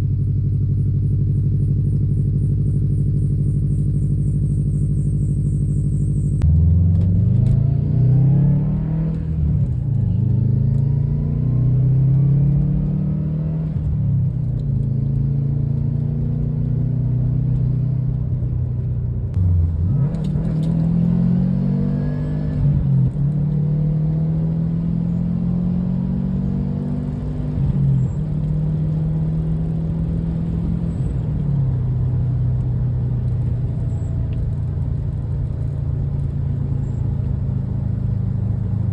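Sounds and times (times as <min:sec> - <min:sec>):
car engine accelerating through gears: 0:03.2 - 0:38.9.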